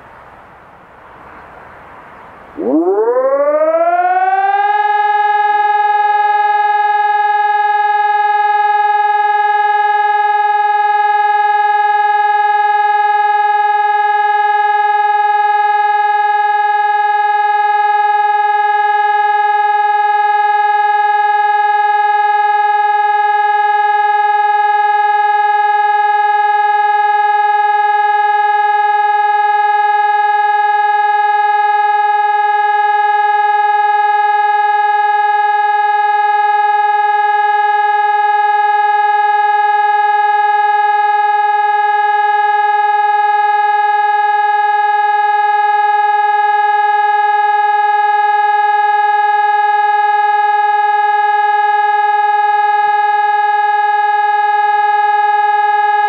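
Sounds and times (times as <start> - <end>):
steady siren tone: 0.0 - 56.0.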